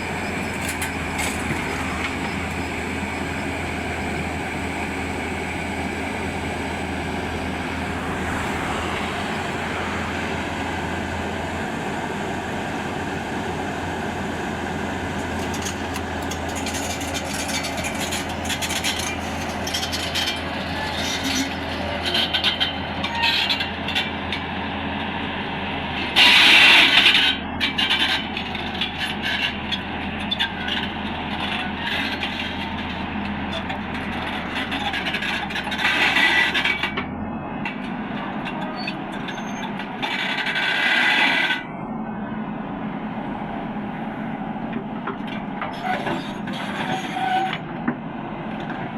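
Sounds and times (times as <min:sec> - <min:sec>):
excavator diesel engine drone: 0:00.0 - 0:48.9.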